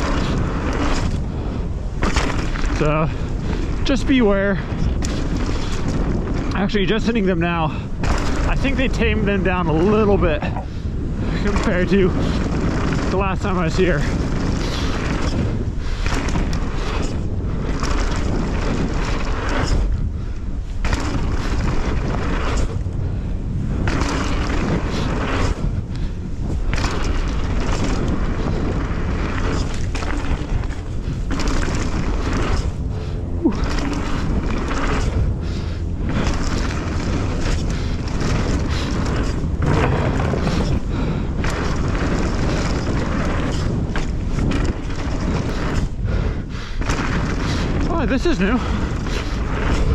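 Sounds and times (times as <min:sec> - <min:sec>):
bike tyres on dirt trail: 0:00.0 - 0:49.9
wind rush on microphone: 0:00.0 - 0:49.9.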